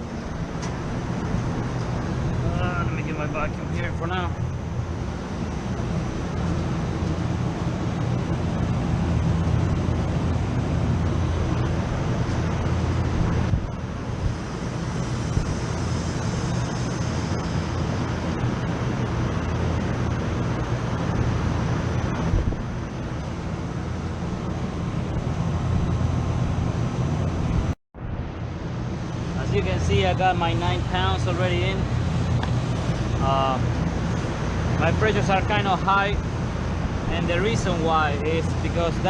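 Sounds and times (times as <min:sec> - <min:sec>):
compressor low hum: 0:00.0 - 0:39.0
condenser fans rushing: 0:00.0 - 0:39.0.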